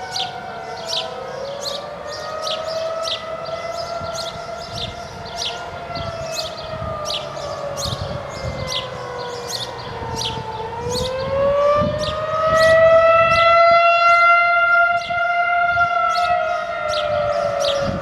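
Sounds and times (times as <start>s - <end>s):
air-raid siren wailing: 0.0s - 18.0s.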